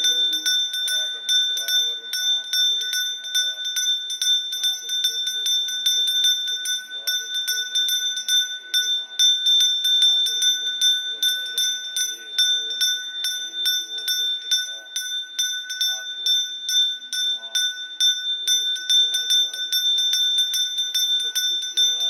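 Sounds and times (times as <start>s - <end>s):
small brass hand bell ringing: 0.0s - 22.0s.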